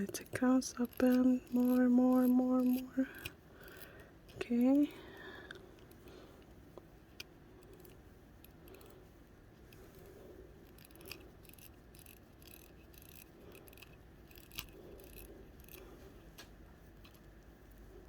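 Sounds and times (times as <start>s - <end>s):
watch crown clicks and scrapes: 0.0s - 17.3s.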